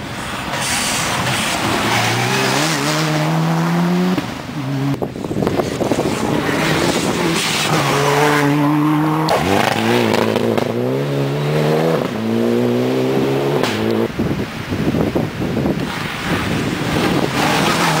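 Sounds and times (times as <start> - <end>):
rally car engine revving: 0.5 - 14.2, 15.8 - 18.0.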